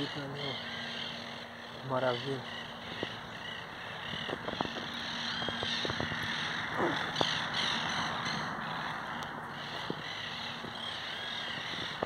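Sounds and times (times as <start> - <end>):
parakeets chattering and squawking: 0.0 - 12.0.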